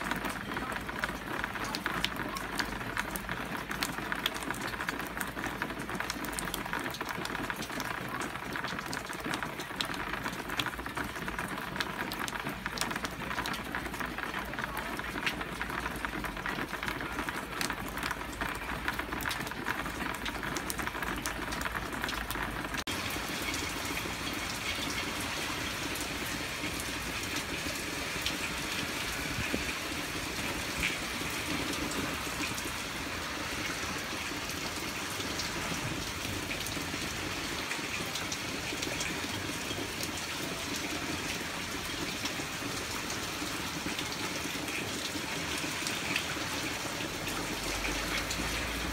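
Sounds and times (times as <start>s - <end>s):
heavy rain rushing: 0.0s - 48.9s
raindrops splashing on ledge: 0.0s - 48.9s.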